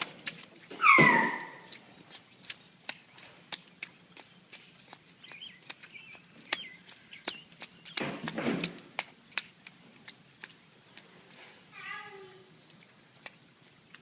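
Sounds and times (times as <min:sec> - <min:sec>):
child splashing in puddle: 0:00.0 - 0:14.0
sharp drips and taps: 0:00.0 - 0:14.0.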